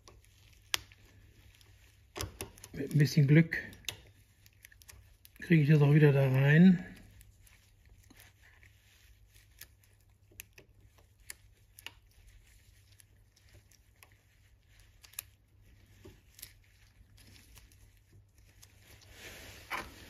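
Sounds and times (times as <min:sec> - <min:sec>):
small metal clicks and scrapes: 0:00.0 - 0:19.1
gloved hands rustling: 0:00.0 - 0:20.0.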